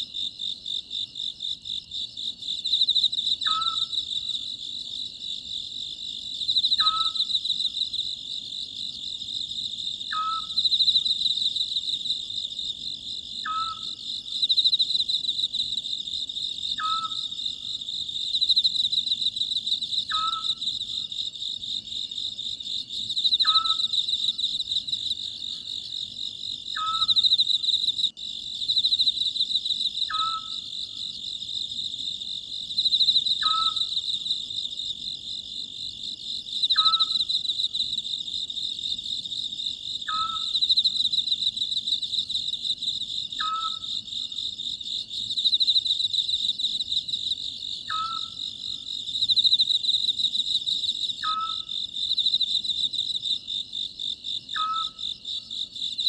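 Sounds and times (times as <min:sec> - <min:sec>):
crickets chirping chorus: 0:00.0 - 0:56.0.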